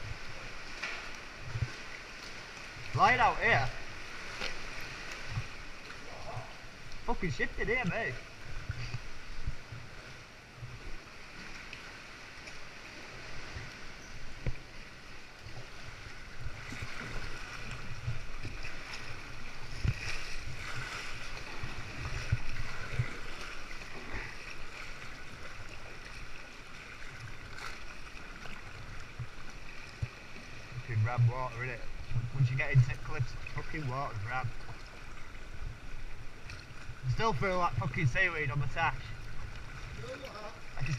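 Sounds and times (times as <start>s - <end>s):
water splashing around kayak: 0.0s - 40.9s.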